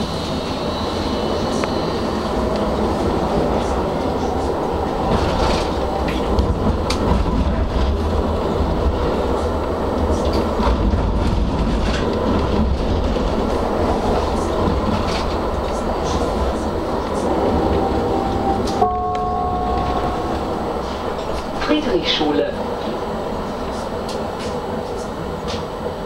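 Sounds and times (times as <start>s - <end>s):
tram running gear rumble: 0.0s - 26.0s.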